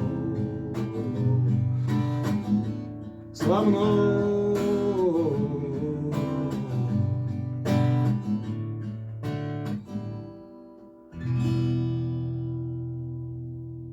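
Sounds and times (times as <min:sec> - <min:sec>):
acoustic guitar picking and strumming: 0:00.0 - 0:13.9.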